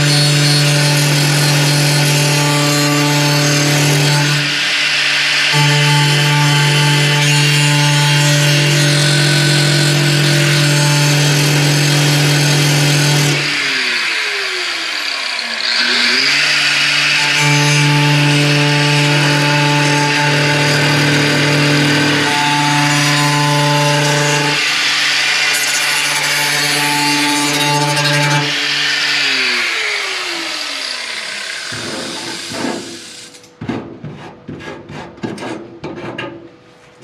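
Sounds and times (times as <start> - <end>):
power tool cutting sheet metal: 0.0 - 33.6.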